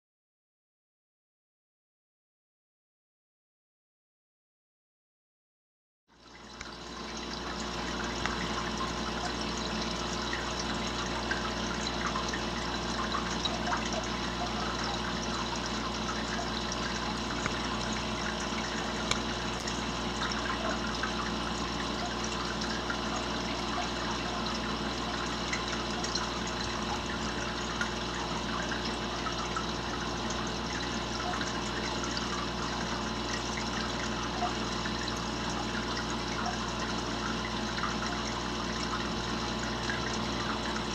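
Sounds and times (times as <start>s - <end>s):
low equipment hum: 6.1s - 40.9s
water trickling and bubbling: 6.2s - 40.9s.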